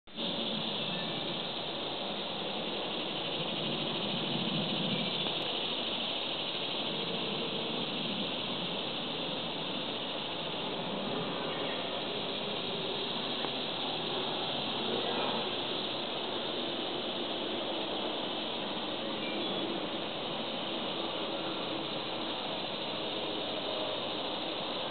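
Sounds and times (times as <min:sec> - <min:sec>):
high-pitched insect chorus: 0:00.1 - 0:24.9.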